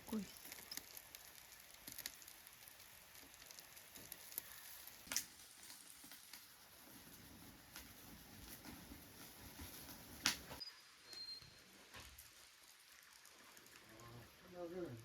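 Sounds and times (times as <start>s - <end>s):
faint clicks and crackling: 0.0s - 11.2s, 11.9s - 15.0s.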